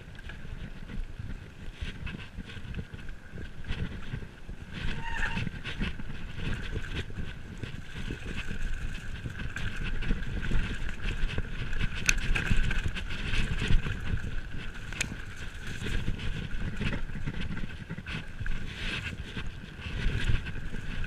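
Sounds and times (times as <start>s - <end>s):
bike rattling over bumps: 0.0s - 21.0s
wind buffeting microphone: 0.0s - 21.0s.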